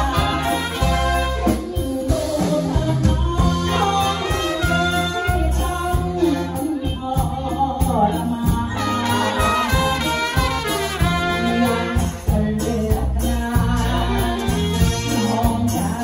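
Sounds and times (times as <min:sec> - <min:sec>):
saxophone and trumpets: 0:00.0 - 0:02.8, 0:03.4 - 0:07.2, 0:08.6 - 0:16.0
drum kit and bass beat: 0:00.0 - 0:16.0
man singing into microphone: 0:00.0 - 0:16.0.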